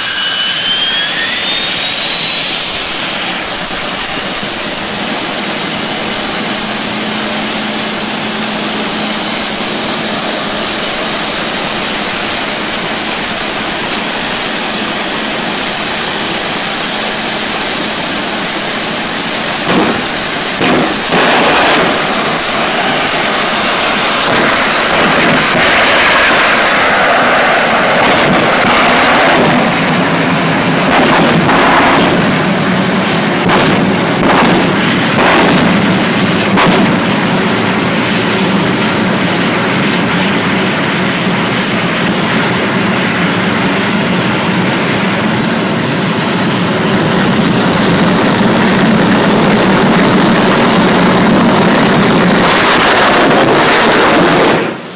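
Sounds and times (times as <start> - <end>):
high-pitched turbine whine: 0.0 - 54.9
loud rushing roar: 0.0 - 54.9.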